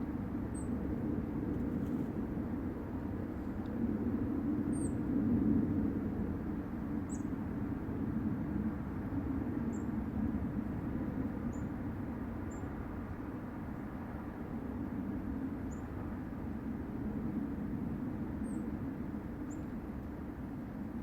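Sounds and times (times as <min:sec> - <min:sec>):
low rumbling drone from sky: 0:00.0 - 0:21.0.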